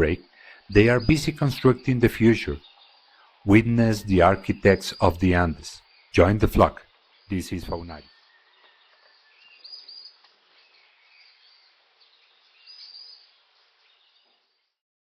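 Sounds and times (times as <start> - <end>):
faint high bird chirps: 0.0 - 14.8
soft forest hiss: 0.0 - 14.8.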